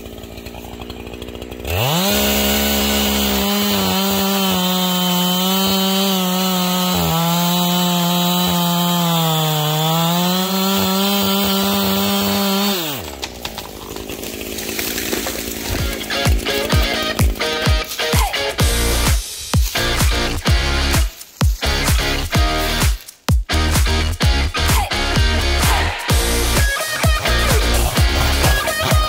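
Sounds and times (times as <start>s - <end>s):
chainsaw revving and cutting wood: 0.0s - 29.0s.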